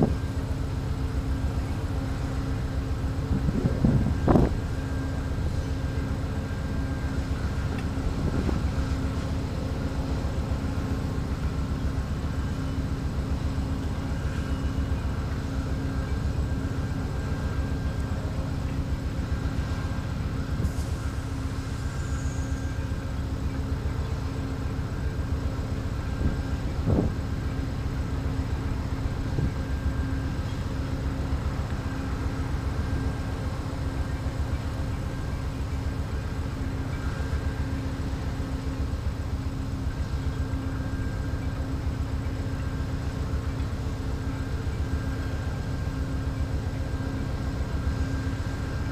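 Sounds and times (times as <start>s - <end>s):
diesel locomotive idling: 0.0s - 48.9s.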